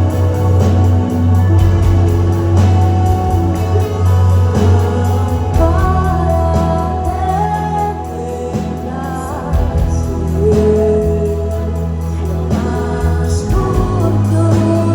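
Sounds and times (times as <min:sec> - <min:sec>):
gospel band playing: 0:00.0 - 0:14.9
heavy bass: 0:00.0 - 0:14.9
keyboard chords: 0:00.0 - 0:14.9.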